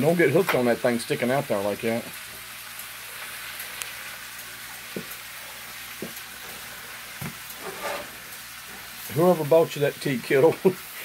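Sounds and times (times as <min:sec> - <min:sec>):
cabbage sizzling in oil: 0:00.0 - 0:11.0.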